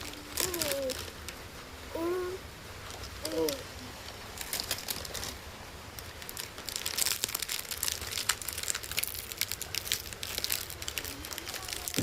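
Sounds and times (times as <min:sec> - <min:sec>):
plastic snack packet crackling: 0:00.0 - 0:01.4, 0:02.9 - 0:12.0.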